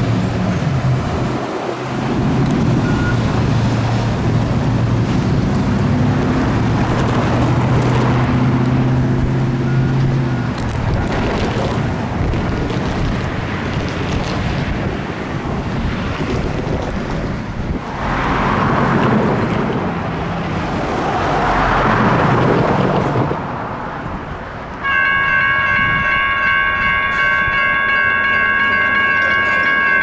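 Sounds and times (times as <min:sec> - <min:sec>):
wind buffeting microphone: 0:00.0 - 0:27.9
train wheels rumbling on rail: 0:00.0 - 0:30.0.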